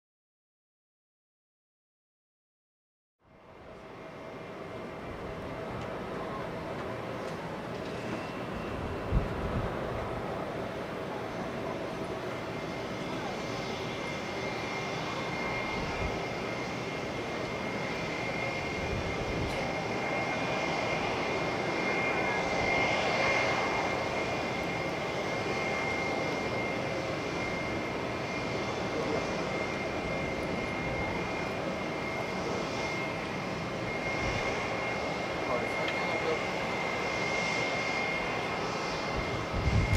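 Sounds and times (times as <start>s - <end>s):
jet engines whining: 3.4s - 39.9s.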